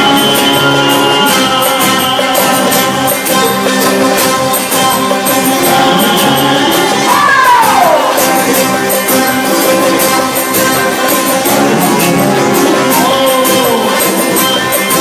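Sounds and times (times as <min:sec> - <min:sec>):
melody with sliding notes: 0:00.0 - 0:15.0
steady percussion beat: 0:00.0 - 0:15.0.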